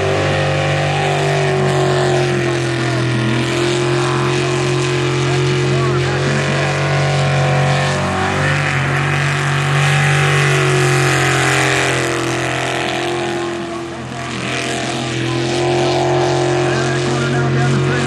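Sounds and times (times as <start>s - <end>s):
jet boat engine roaring: 0.0s - 18.0s.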